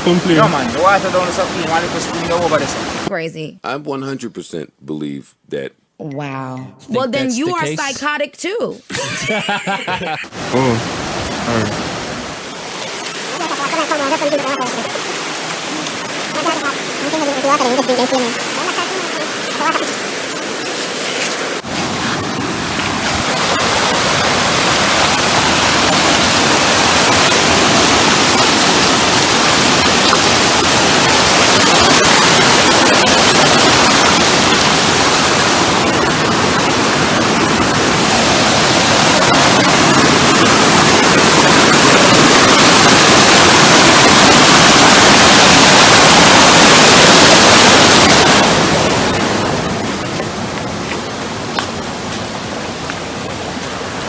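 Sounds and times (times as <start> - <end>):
muddy river rushing: 0.0 - 3.1, 6.9 - 8.2, 8.9 - 54.0.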